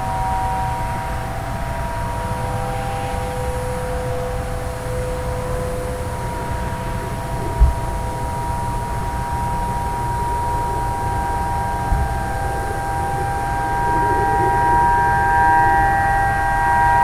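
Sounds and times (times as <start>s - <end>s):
distant warning sirens: 0.0s - 17.0s
wind rumble on microphone: 0.0s - 17.0s.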